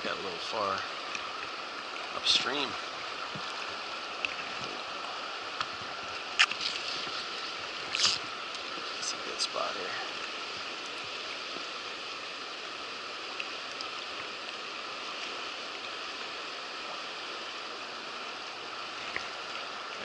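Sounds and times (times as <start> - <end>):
river water rushing over rocks: 0.0 - 20.0.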